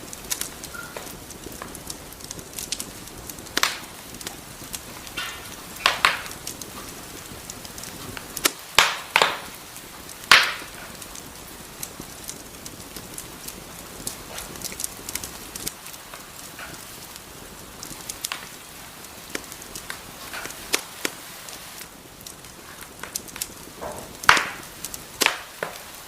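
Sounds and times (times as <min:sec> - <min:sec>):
loud snapping pops of fire: 0:00.0 - 0:26.0
wood fire crackling: 0:00.0 - 0:26.0.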